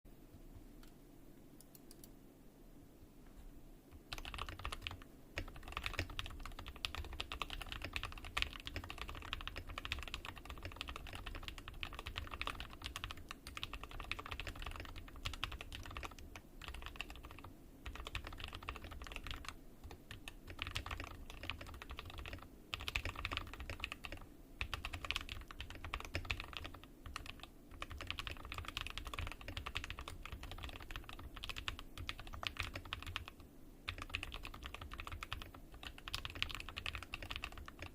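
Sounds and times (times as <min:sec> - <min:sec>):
mechanical keyboard typing: 0:03.9 - 0:37.9.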